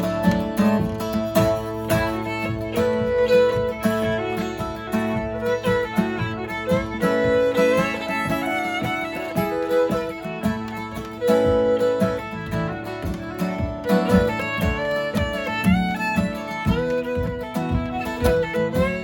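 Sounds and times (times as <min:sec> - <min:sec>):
fiddle playing quick melody: 0:00.0 - 0:19.0
strummed guitar: 0:00.0 - 0:19.0.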